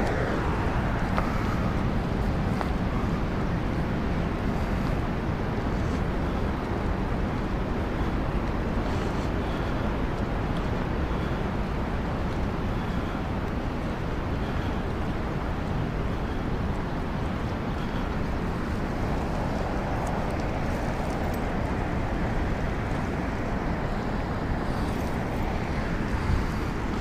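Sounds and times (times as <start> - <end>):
rushing water below a dam: 0.0 - 27.0
wind on microphone: 0.0 - 27.0.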